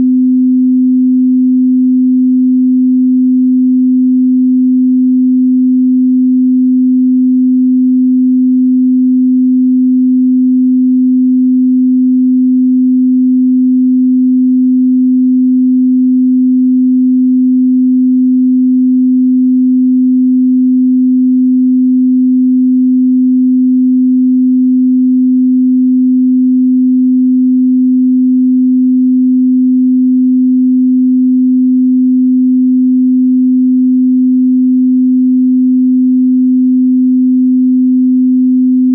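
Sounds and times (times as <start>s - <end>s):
pure sine test tone: 0.0s - 38.9s.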